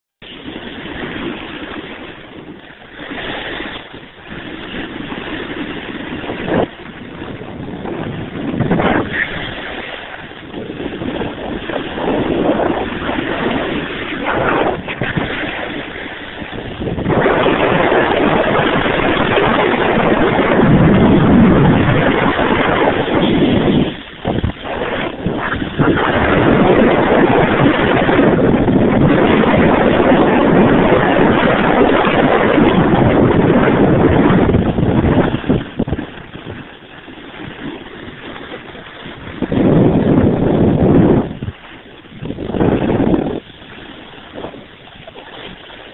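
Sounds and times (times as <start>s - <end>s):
snowboards sliding over snow: 0.2s - 45.9s
wind buffeting microphone: 0.2s - 45.9s.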